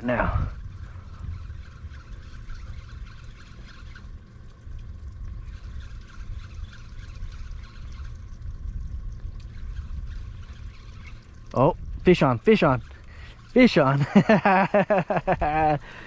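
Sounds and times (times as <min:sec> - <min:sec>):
steady low rumble: 0:00.0 - 0:16.0
water lapping against boat hull: 0:00.0 - 0:16.0.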